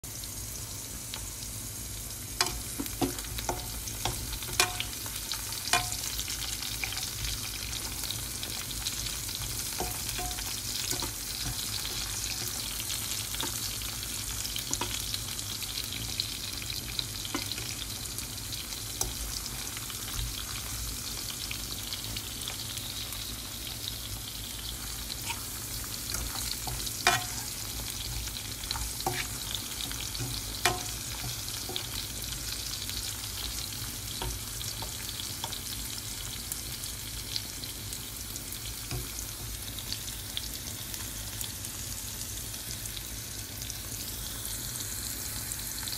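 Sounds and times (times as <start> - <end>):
sausages sizzling in frying pan: 0.0 - 45.9.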